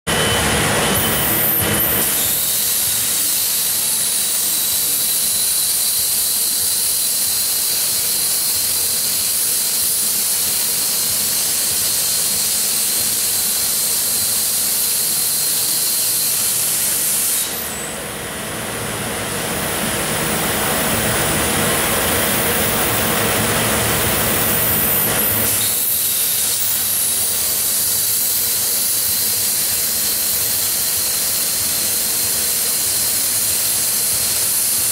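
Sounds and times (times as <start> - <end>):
plasma torch hissing: 0.1 - 18.1, 20.7 - 34.9.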